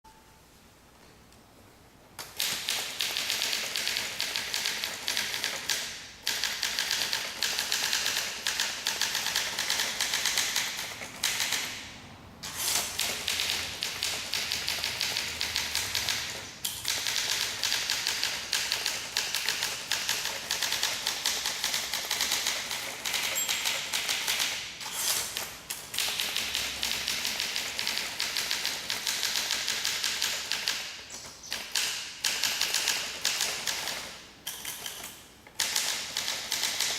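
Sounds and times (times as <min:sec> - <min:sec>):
manual typewriter typing: 0:02.2 - 0:11.8, 0:12.4 - 0:36.9.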